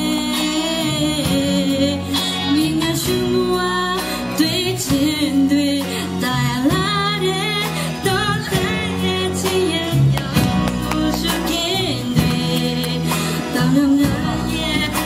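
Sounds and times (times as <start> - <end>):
electric bass: 0.0 - 15.0
strummed acoustic guitars: 0.0 - 15.0
woman singing: 0.0 - 15.0.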